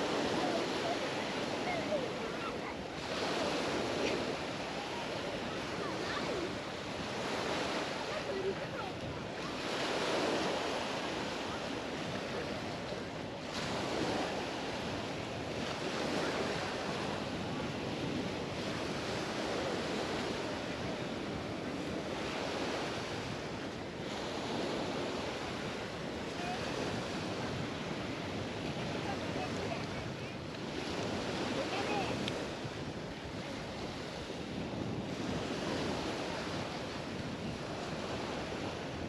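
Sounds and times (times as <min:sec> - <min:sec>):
sea waves breaking on sand: 0:00.0 - 0:39.0
wind noise on microphone: 0:00.0 - 0:39.0.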